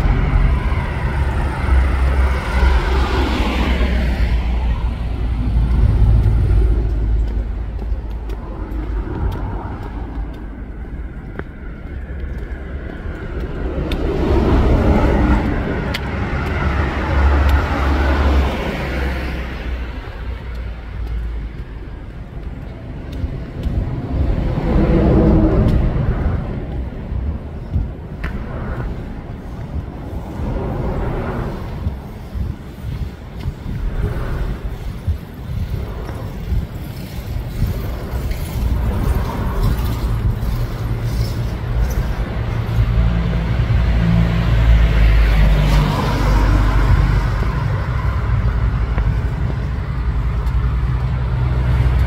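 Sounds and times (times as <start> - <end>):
cars passing: 0.0 - 52.0
low traffic rumble: 0.0 - 52.0.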